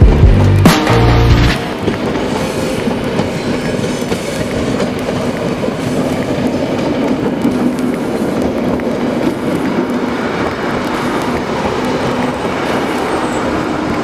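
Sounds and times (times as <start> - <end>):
train hum: 0.0 - 14.0
train wheels clicking over joints: 1.5 - 14.0.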